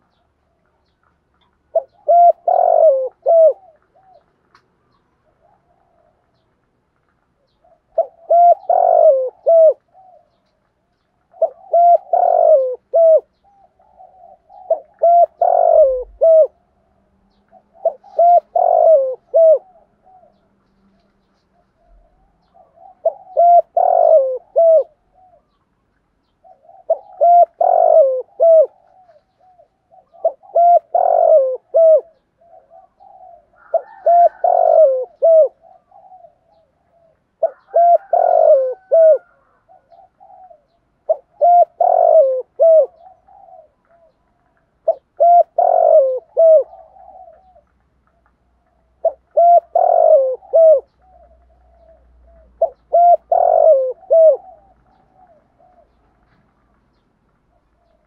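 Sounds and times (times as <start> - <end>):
dove cooing: 0.0 - 6.4, 7.4 - 10.6, 11.2 - 25.6, 26.2 - 58.0.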